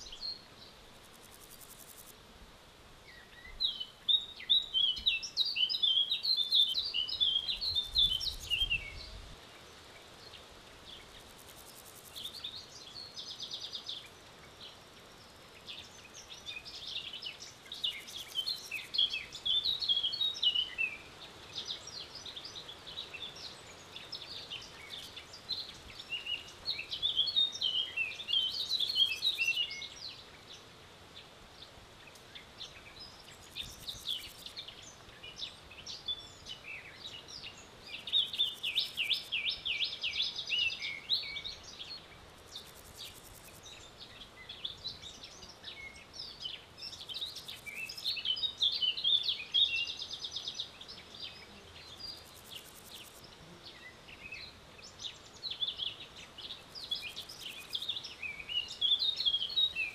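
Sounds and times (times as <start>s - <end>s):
small birds singing: 0.0s - 2.2s, 3.0s - 59.9s.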